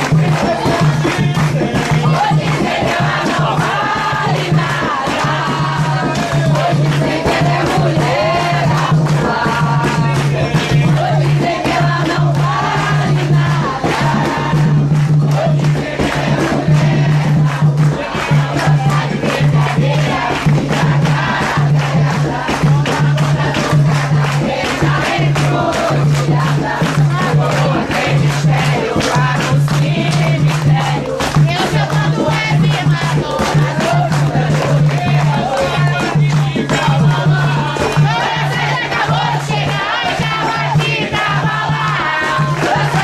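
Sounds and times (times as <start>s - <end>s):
group singing a chant: 0.0s - 43.0s
steady drumming: 0.0s - 43.0s.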